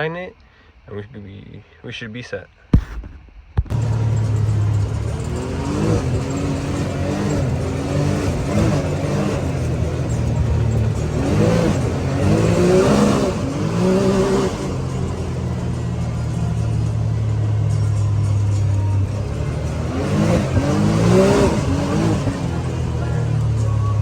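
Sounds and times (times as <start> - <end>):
engine revving: 3.7 - 24.0.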